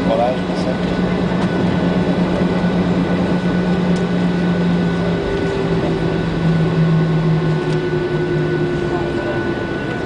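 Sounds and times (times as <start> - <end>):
faint high engine whine: 0.0 - 10.0
higher drone: 0.0 - 10.0
jet engines humming: 0.0 - 10.0.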